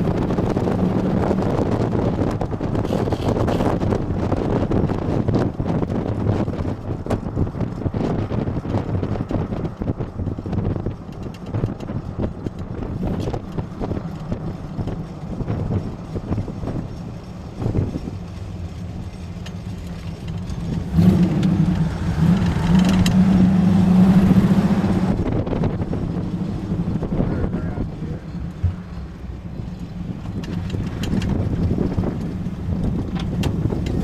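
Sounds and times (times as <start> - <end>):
jeep engine running: 0.0 - 34.0.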